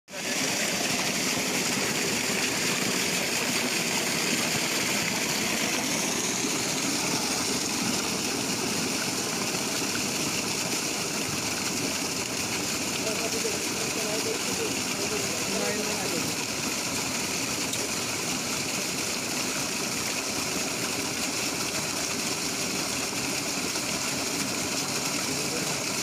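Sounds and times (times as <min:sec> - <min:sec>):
water gushing from pump outlet: 0:00.1 - 0:26.0.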